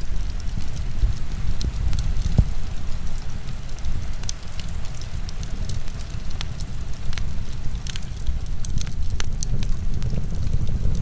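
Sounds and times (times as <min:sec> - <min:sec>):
heavy rain rumble: 0:00.0 - 0:11.0
wood fire crackling and popping: 0:00.0 - 0:11.0.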